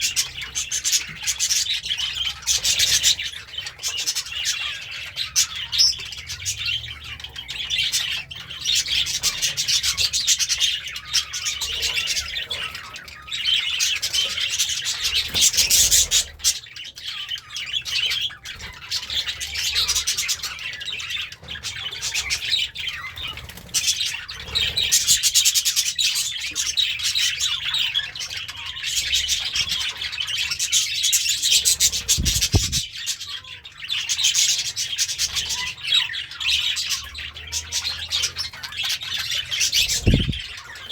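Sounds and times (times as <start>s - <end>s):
budgerigar warbling and chirping: 0.0s - 40.9s.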